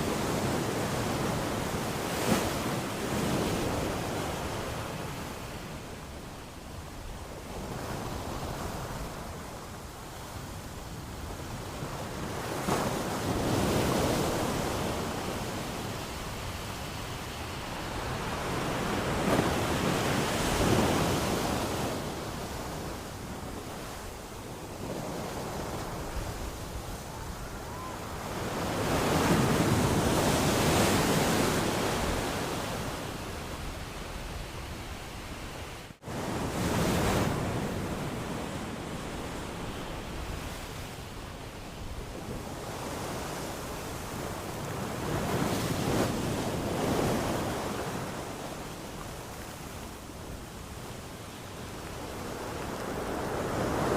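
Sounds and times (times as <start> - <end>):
ocean waves washing onto beach: 0.0 - 53.9.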